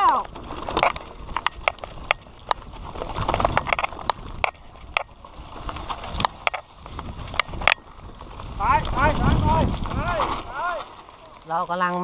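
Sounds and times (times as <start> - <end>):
bike clicks and knocks: 0.0 - 12.0
mountain bike rattling: 0.0 - 12.0
steady rushing noise: 1.2 - 11.8.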